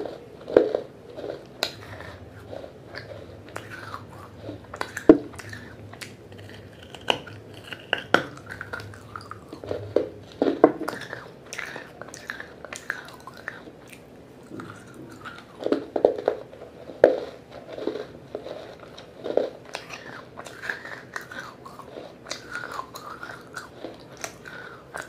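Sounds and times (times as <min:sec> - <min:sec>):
biting and chewing clay: 0:00.0 - 0:25.0.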